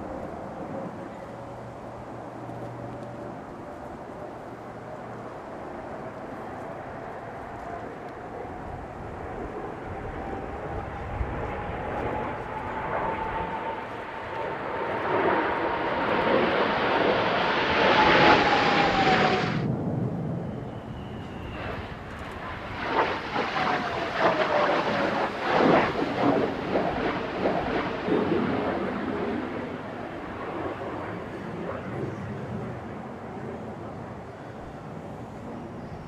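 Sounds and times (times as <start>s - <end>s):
jet engine whine: 0.0s - 36.0s
jet engines roaring overhead: 0.0s - 36.0s.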